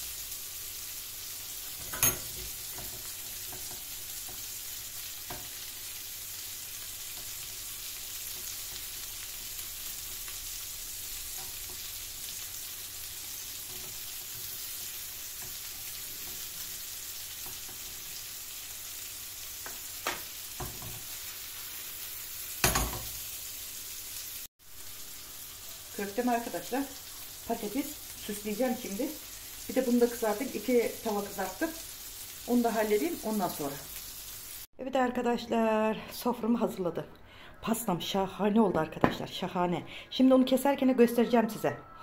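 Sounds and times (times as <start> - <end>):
meatballs sizzling in a frying pan: 0.0 - 34.8.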